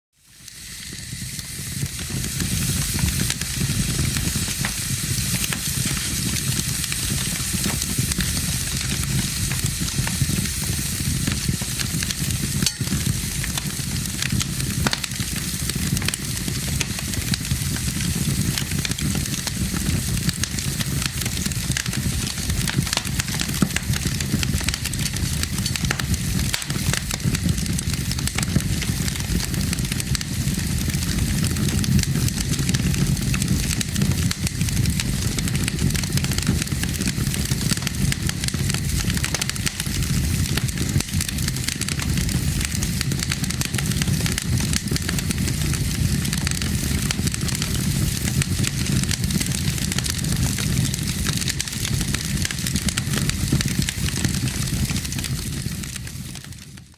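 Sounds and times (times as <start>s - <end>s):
fire crackling and hissing: 0.2s - 56.9s.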